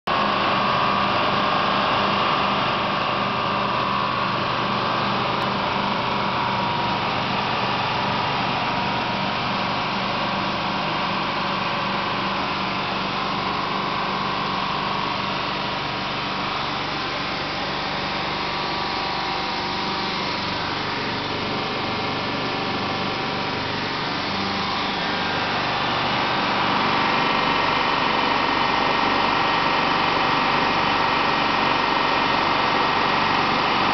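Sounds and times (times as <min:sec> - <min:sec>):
compressor droning: 0:00.1 - 0:33.9.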